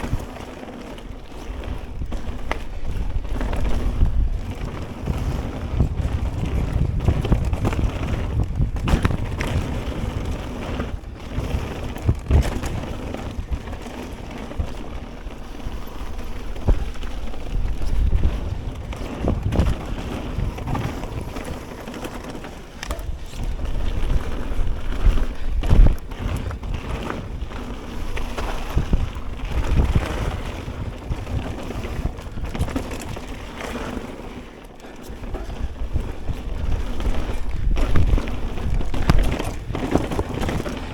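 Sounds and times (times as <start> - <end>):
bike knocks and rattles: 0.0 - 40.9
bike tyre noise on dirt: 0.0 - 40.9
wind buffeting microphone: 0.0 - 40.9.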